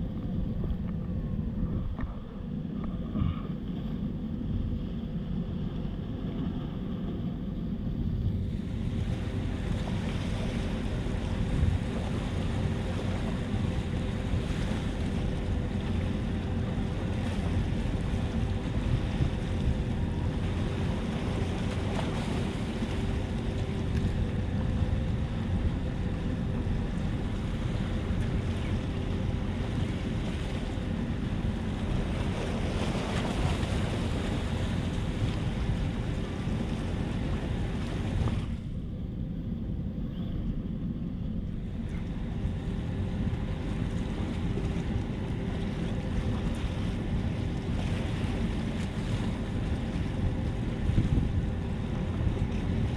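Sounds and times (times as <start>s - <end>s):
faint steady hum: 0.0s - 52.9s
wind buffeting microphone: 0.0s - 52.9s.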